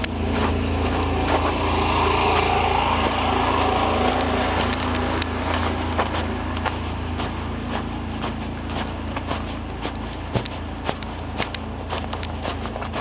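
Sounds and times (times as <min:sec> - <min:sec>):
footsteps on snow: 0:00.0 - 0:13.0
road traffic hum: 0:00.0 - 0:13.0.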